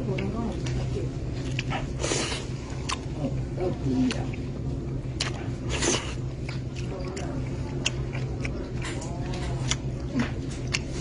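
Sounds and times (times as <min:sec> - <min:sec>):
person chewing: 0:00.0 - 0:11.0
steady low hum: 0:00.0 - 0:11.0.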